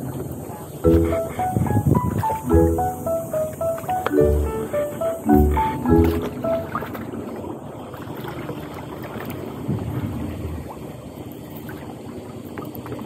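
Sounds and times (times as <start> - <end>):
outdoor water ambience: 0.0 - 13.0.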